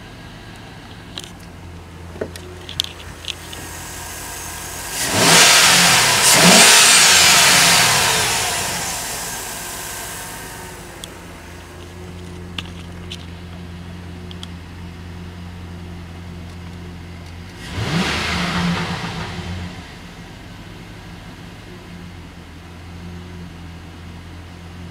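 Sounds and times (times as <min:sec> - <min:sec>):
truck engine idling and revving: 0:00.0 - 0:24.9.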